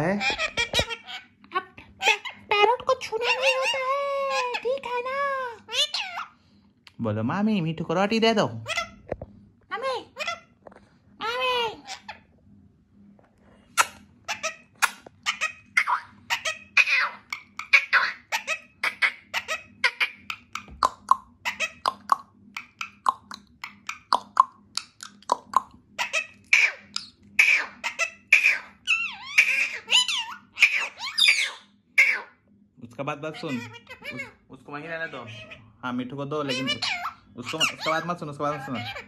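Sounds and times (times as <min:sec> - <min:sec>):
parakeet chattering: 0:00.0 - 0:06.4, 0:08.5 - 0:09.1, 0:09.7 - 0:10.6, 0:11.2 - 0:12.3, 0:13.7 - 0:32.4, 0:33.0 - 0:39.0.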